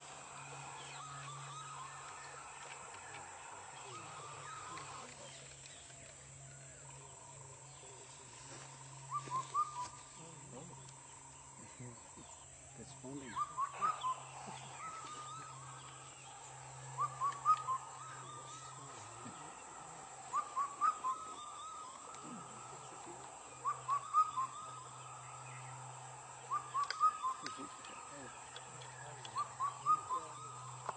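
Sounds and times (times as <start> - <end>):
cuckoo whistled call: 0.0 - 30.9
faint low hum: 0.0 - 30.9
faint steady drone: 0.0 - 30.9.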